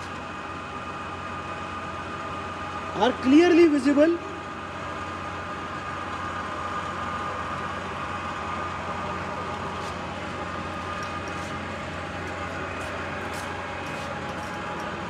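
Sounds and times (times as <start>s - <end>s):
lathe running with high hum: 0.0s - 15.0s.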